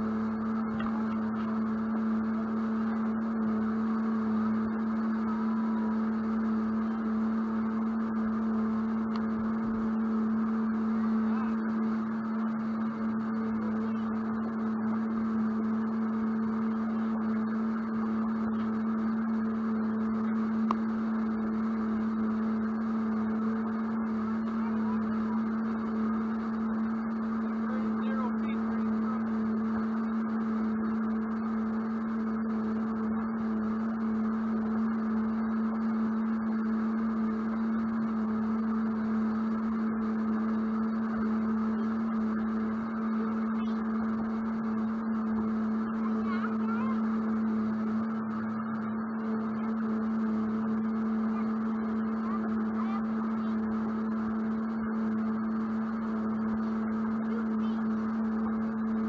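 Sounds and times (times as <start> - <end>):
jet boat engine droning: 0.0 - 59.0.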